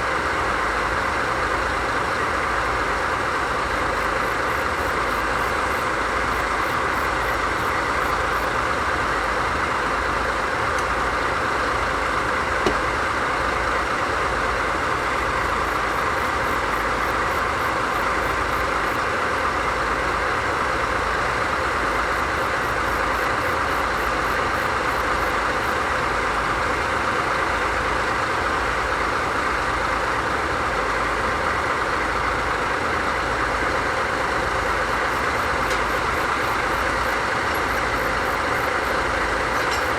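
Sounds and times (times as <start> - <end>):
diesel engines idling: 0.0 - 39.9.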